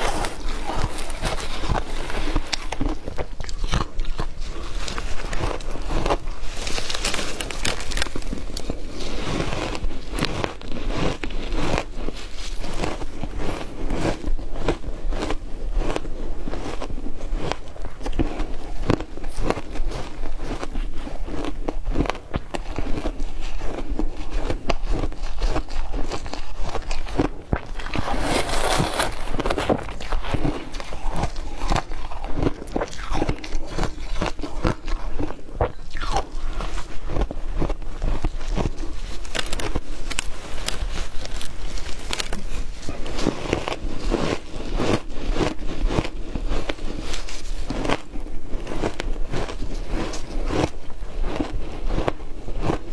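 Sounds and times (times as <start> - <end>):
ice crunched between teeth: 0.0 - 20.7, 21.3 - 52.9.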